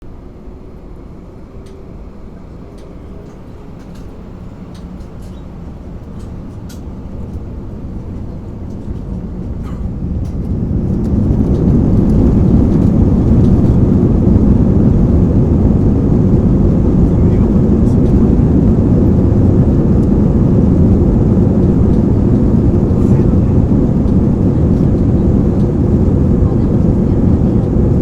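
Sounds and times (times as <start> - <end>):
airplane engine rumble: 0.0 - 28.0.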